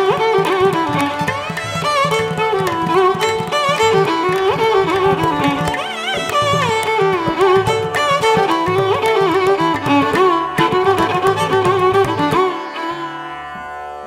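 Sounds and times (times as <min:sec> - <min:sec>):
indian classical instrumental music: 0:00.0 - 0:14.0.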